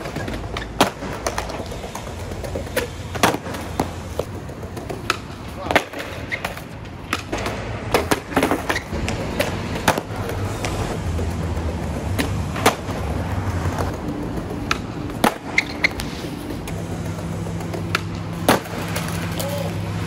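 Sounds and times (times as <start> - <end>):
skateboards clacking: 0.0 - 20.0
skateboards rolling on concrete: 0.0 - 20.0.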